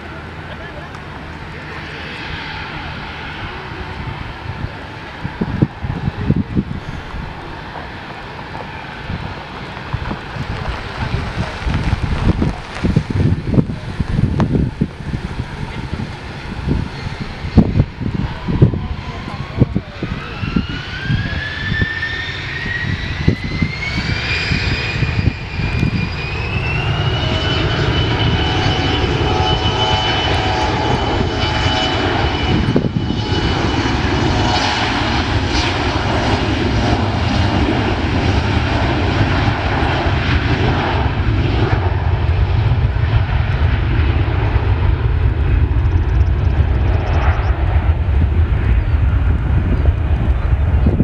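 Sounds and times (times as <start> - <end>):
heavy jet rumble: 0.0 - 51.0
jet engine whine rising: 0.0 - 51.0.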